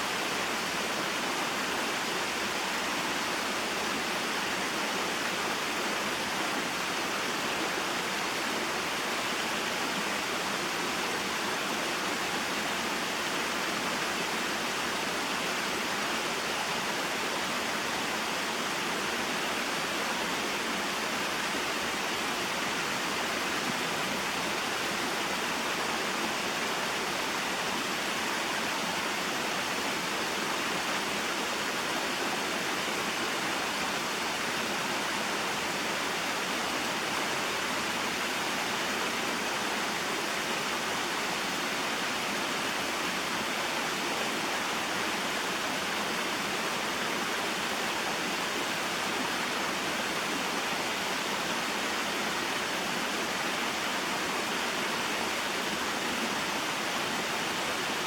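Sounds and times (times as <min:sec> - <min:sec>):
waterfall and stream flowing: 0:00.0 - 0:58.0.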